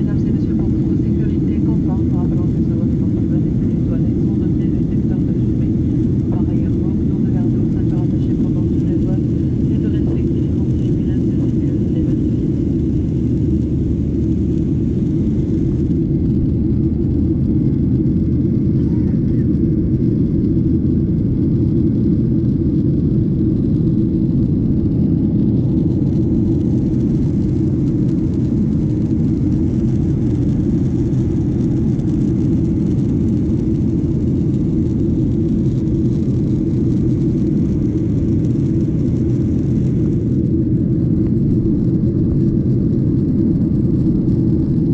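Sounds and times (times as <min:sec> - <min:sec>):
jet engines and rushing air: 0:00.0 - 0:44.9.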